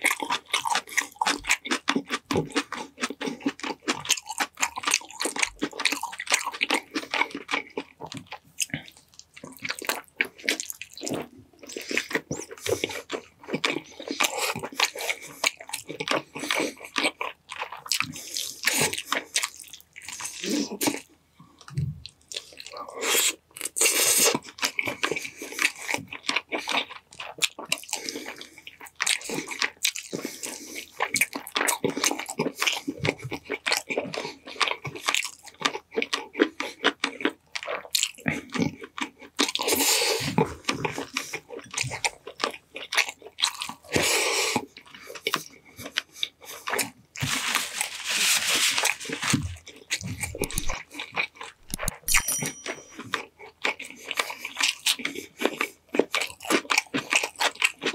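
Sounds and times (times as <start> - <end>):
biting and chewing mouth sounds: 0.0 - 57.9.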